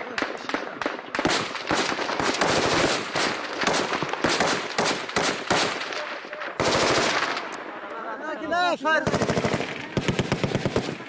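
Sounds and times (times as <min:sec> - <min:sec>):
machine gun fire: 0:00.2 - 0:07.6, 0:09.0 - 0:11.0.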